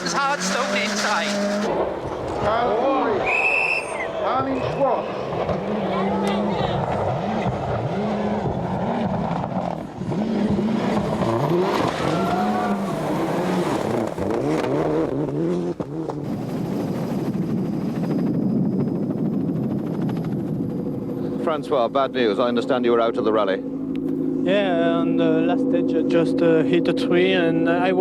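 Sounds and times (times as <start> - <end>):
rally car engine revving: 0.0 - 2.8, 3.9 - 18.0, 20.8 - 28.0.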